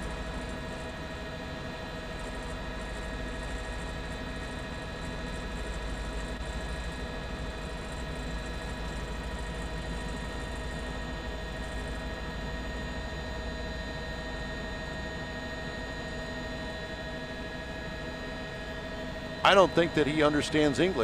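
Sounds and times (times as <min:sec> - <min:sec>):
helicopter turbine and rotors: 0:00.0 - 0:21.0.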